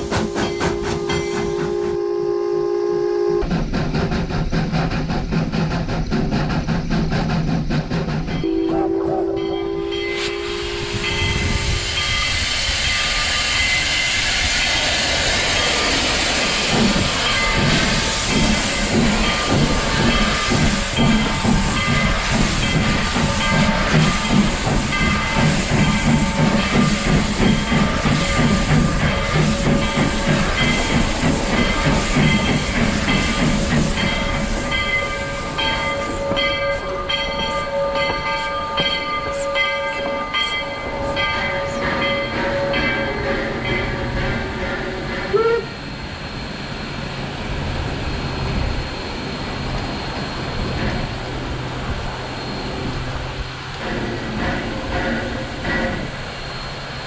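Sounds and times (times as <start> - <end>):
steam locomotive chuffing: 0.0 - 57.0
steam hissing: 3.4 - 57.0.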